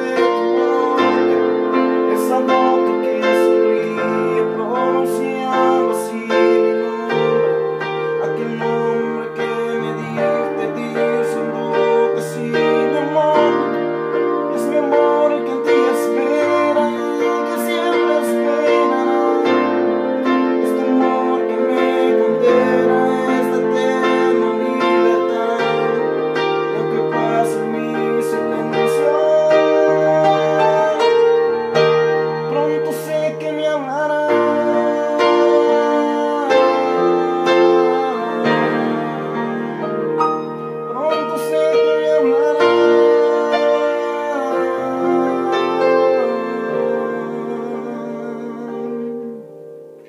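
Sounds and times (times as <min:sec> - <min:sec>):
electronic keyboard ballad: 0:00.0 - 0:50.0.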